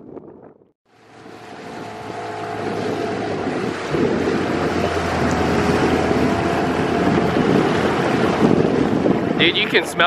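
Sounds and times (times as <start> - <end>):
wind on microphone: 0.0 - 10.0
boat motor humming: 0.9 - 10.0.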